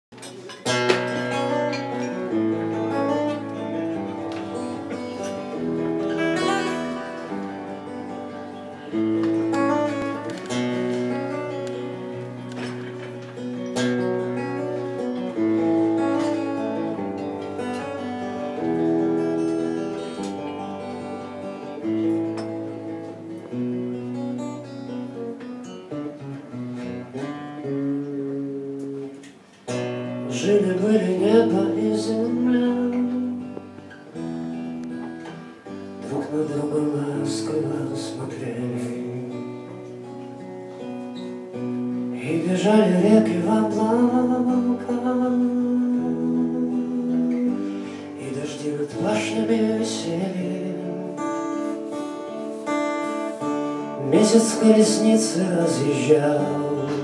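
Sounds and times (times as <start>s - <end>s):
acoustic guitar chords: 0.0s - 57.0s.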